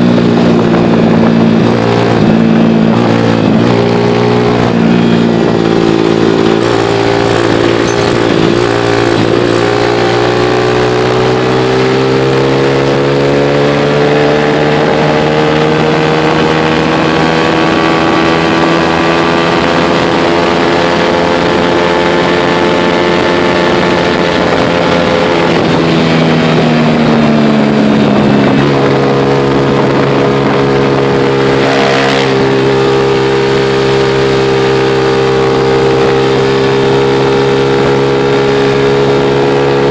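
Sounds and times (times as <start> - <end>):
road noise: 0.0 - 39.9
vehicle engine running: 0.0 - 39.9
wind noise: 0.0 - 39.9.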